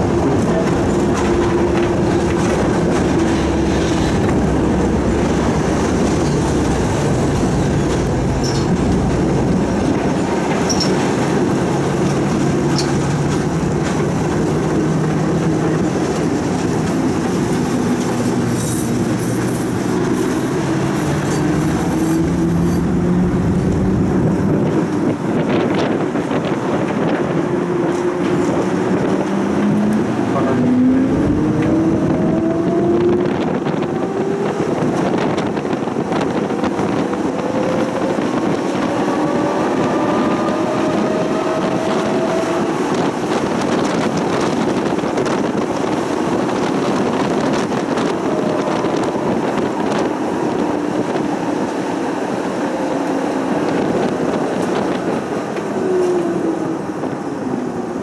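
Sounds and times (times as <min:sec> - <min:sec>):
tram motor hum: 0:00.0 - 0:58.0
tram wheels rumbling on track: 0:00.0 - 0:58.0.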